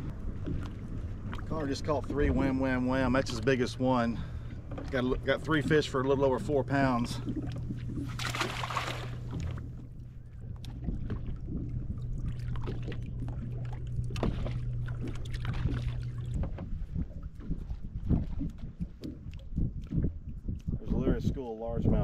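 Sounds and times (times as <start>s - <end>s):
low hum: 0.0s - 22.0s
waves lapping against boat hull: 0.0s - 22.0s.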